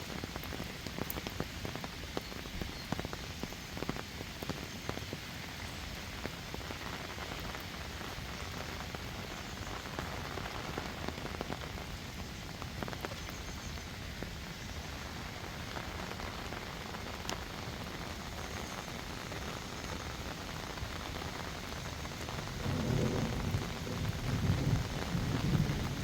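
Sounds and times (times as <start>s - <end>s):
heavy rain hissing: 0.0s - 26.0s
raindrops ticking close by: 0.0s - 26.0s.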